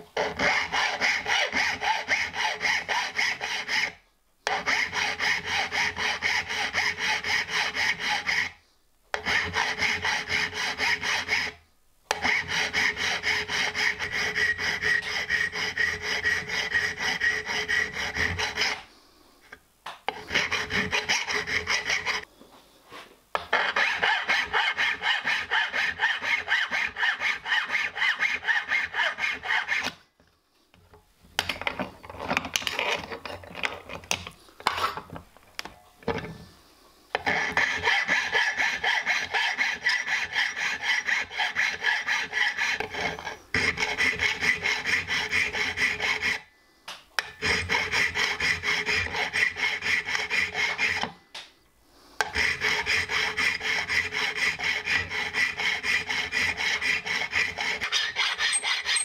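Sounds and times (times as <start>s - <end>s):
hand file rasping on metal: 0.2s - 18.9s, 20.1s - 22.3s, 23.5s - 30.0s, 37.2s - 46.5s, 47.2s - 51.2s, 52.2s - 59.0s.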